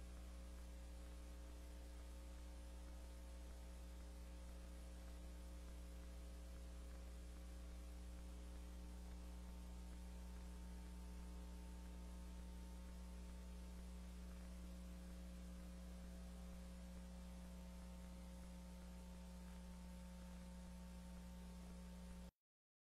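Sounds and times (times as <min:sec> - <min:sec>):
low electrical hum: 0:00.0 - 0:22.3.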